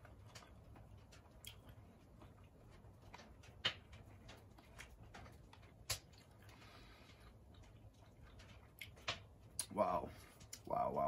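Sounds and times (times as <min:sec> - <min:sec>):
person chewing: 0:00.0 - 0:09.7.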